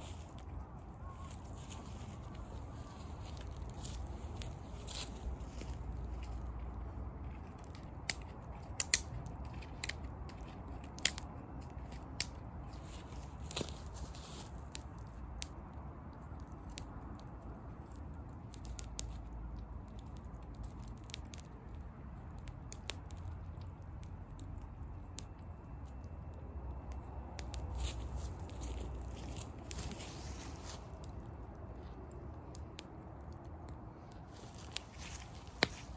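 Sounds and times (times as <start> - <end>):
steady low rumble: 0.0 - 35.9
campfire crackling and popping: 1.2 - 35.9.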